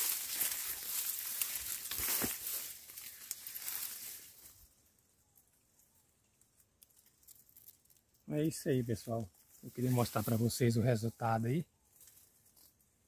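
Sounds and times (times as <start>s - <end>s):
grass rustling and crackling: 0.0s - 13.0s.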